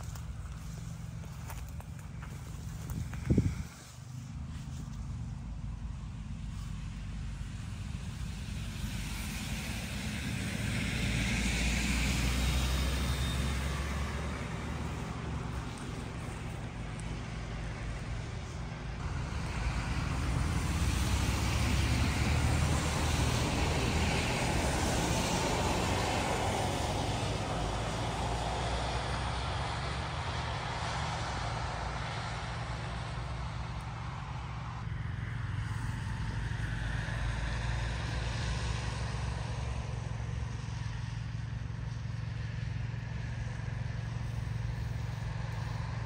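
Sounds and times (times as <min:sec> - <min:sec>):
traffic on a wet road: 0:00.0 - 0:46.0.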